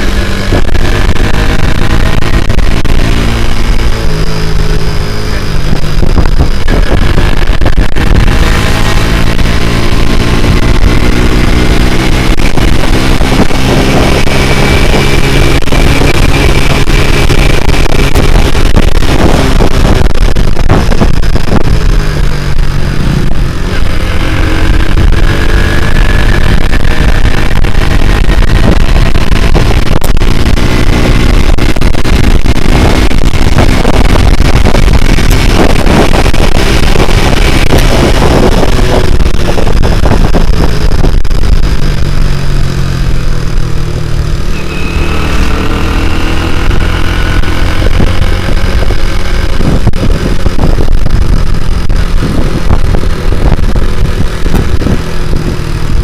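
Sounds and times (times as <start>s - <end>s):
motorcycle engine running hard: 0.0s - 56.0s
wind buffeting microphone: 0.0s - 56.0s.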